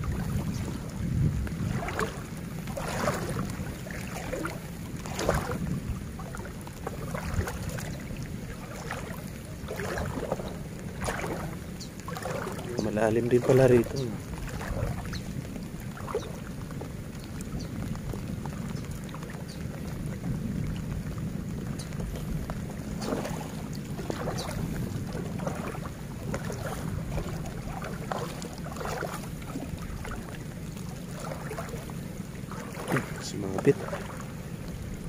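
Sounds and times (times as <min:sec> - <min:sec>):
water lapping around a boat: 0:00.0 - 0:35.0
wind rumble on microphone: 0:00.0 - 0:35.0.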